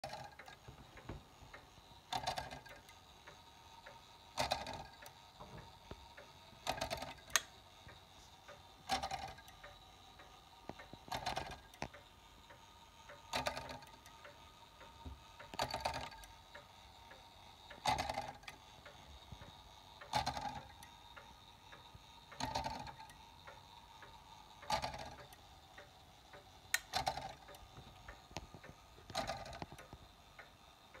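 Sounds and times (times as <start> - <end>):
clock ticking: 0.0 - 31.0.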